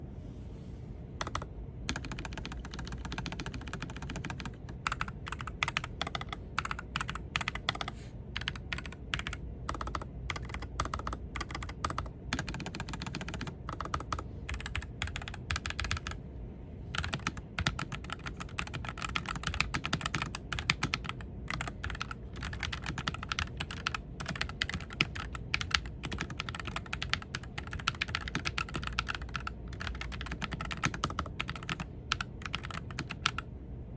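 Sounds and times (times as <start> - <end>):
mechanical keyboard typing: 1.2 - 16.2, 16.9 - 33.5.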